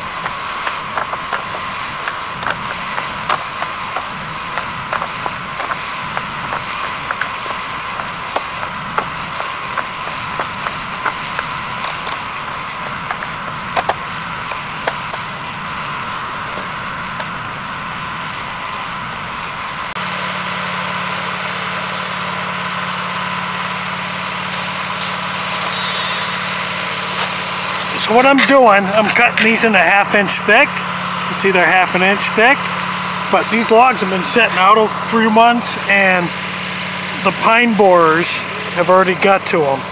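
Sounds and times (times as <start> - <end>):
bandsaw sawmill running: 0.0 - 39.9.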